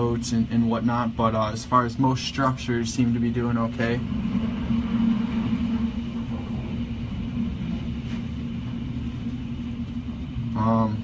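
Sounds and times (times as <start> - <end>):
low hum: 0.0 - 11.0
strong wind rumbling: 0.0 - 11.0.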